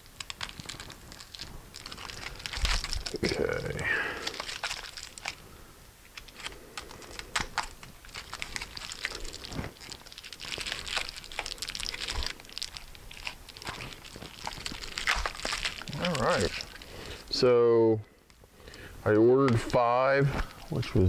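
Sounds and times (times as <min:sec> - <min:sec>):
plastic packaging crinkling: 0:00.0 - 0:17.5, 0:18.3 - 0:21.0.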